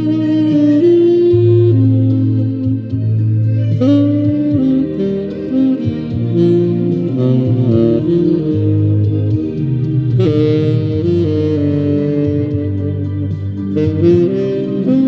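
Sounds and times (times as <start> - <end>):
backing music with bass line: 0.0 - 15.0
saxophone melody: 0.0 - 15.0.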